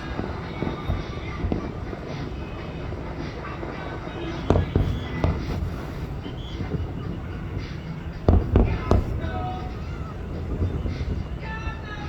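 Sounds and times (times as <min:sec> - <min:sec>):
crowd murmur: 0:00.0 - 0:12.0
fireworks bursting: 0:00.0 - 0:12.0
music on loudspeakers: 0:00.0 - 0:12.0
sharp loud bangs: 0:00.0 - 0:12.0.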